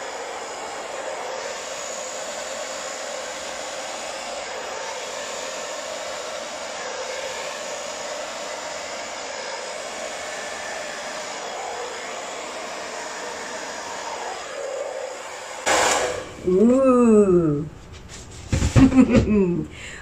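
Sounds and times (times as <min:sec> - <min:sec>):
hair dryer blowing air: 0:00.0 - 0:20.0.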